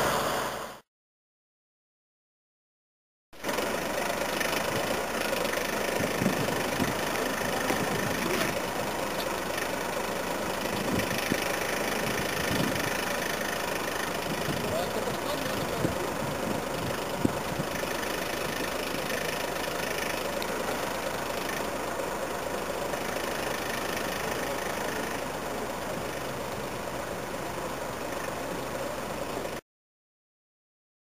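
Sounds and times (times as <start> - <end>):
diesel engine at low revs: 0.0 - 0.9, 3.4 - 29.6.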